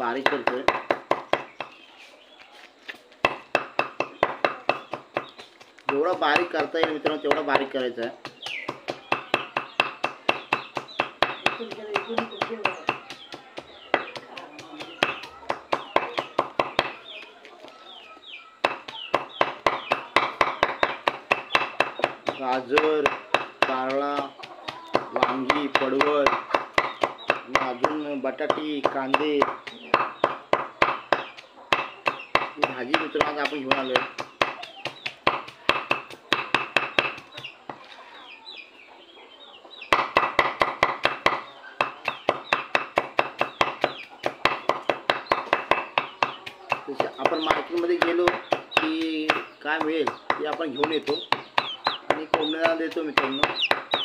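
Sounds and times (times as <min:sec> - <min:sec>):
chickens clucking: 0:00.0 - 0:54.0
knife chopping on wooden block: 0:00.2 - 0:01.8, 0:03.2 - 0:17.0, 0:18.6 - 0:37.8, 0:39.9 - 0:54.0
bird chirps: 0:00.8 - 0:54.0.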